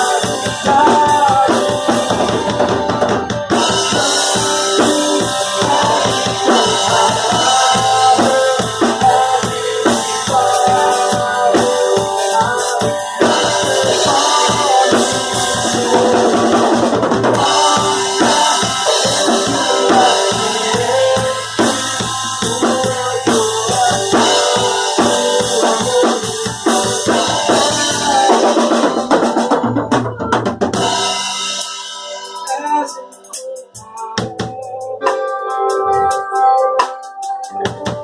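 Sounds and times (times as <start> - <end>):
band playing: 0.0 - 38.0.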